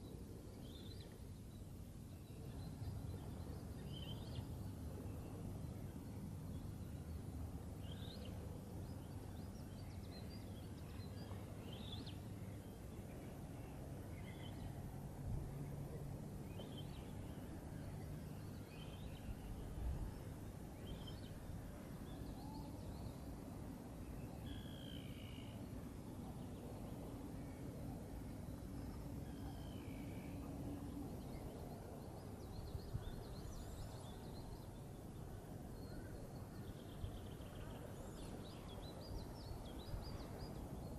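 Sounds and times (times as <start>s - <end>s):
faint birds chirping: 0.0s - 40.9s.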